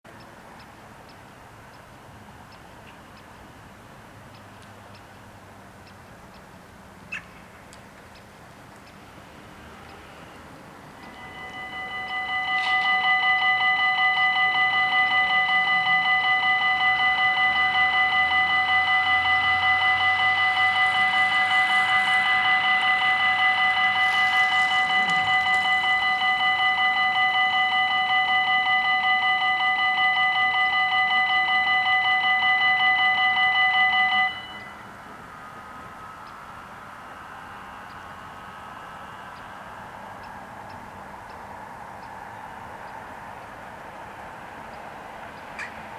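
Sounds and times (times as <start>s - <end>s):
level crossing warning bells: 8.1s - 45.9s.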